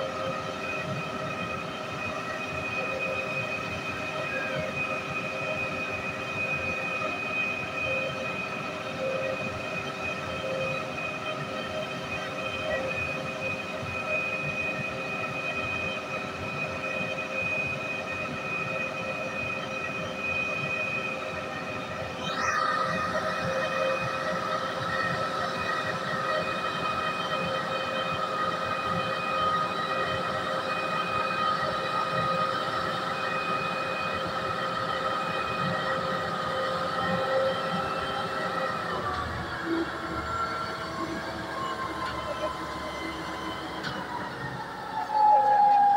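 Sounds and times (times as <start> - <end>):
concrete pump engine whine: 0.0 - 45.9.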